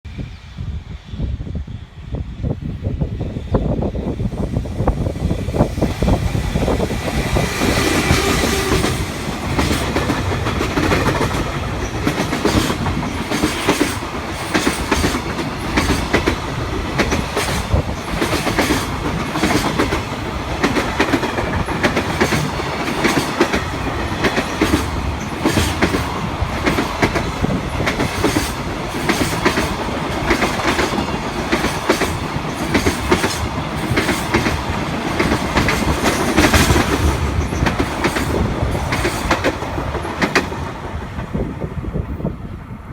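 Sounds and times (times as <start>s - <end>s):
freight train passing: 0.1s - 42.9s
wheels clacking over rail joints: 6.7s - 41.3s.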